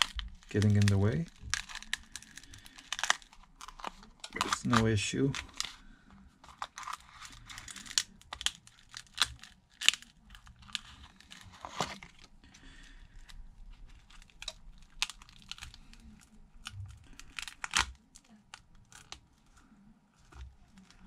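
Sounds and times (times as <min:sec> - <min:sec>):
screen glass crackling and snapping: 0:00.0 - 0:05.8, 0:06.4 - 0:19.2.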